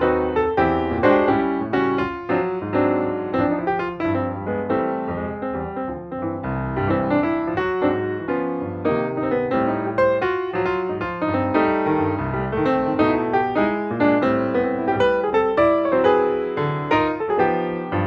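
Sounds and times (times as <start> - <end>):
piano background music: 0.0 - 18.0.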